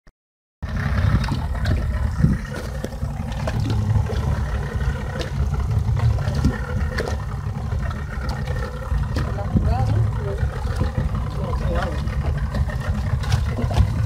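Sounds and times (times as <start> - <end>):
boat motor running: 0.6 - 14.0.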